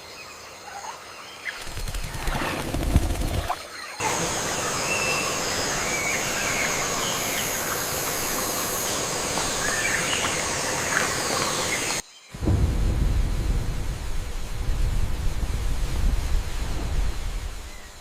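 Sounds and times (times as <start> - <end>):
rainforest hiss: 0.0 - 18.0.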